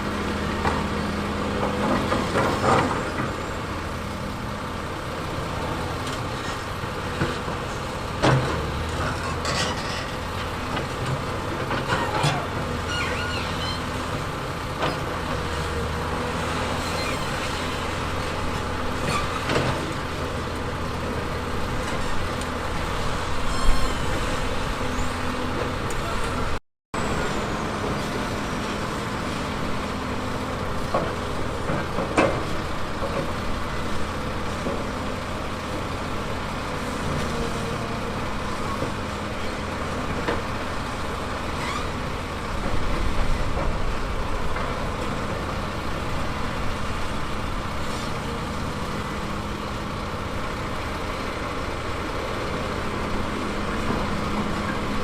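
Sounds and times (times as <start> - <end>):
diesel machinery running: 0.0 - 55.0.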